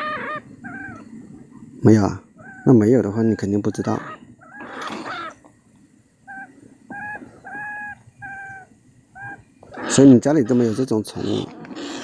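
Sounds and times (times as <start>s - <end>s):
small animal calling: 0.0s - 1.1s, 2.2s - 5.4s, 6.2s - 12.0s
rustle: 0.0s - 12.0s.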